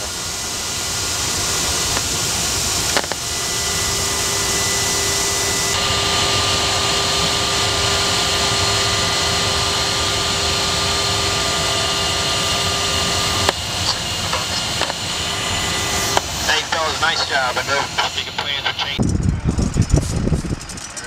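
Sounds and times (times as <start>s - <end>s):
jet engine air rush: 0.0s - 21.0s
thin steady whine: 0.0s - 21.0s.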